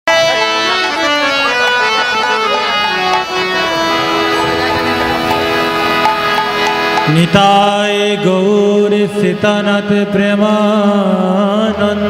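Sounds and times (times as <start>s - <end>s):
harmonium melody: 0.1s - 12.0s.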